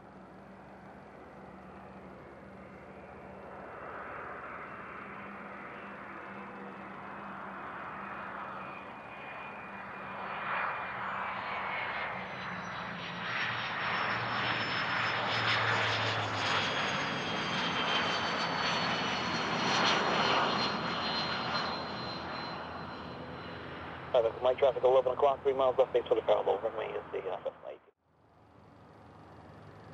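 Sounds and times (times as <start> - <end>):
jet engines passing with high whine: 0.0 - 29.9.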